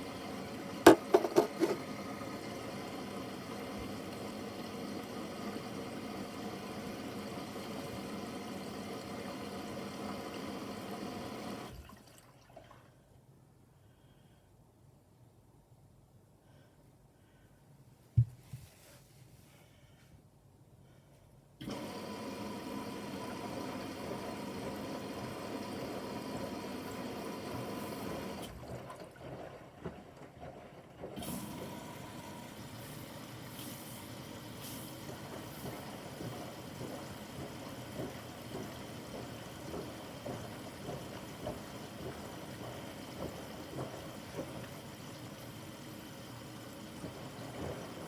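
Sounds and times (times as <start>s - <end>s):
washing machine filling with water: 0.0s - 13.1s, 21.6s - 48.0s.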